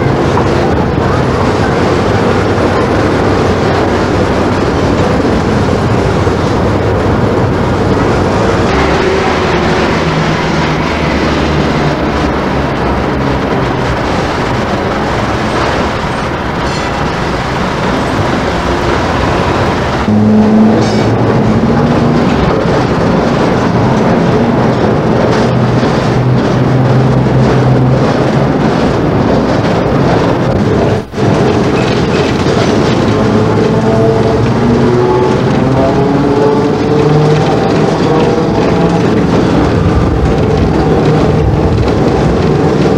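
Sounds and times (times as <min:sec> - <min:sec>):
tram rumbling on rails: 0:00.0 - 0:42.9.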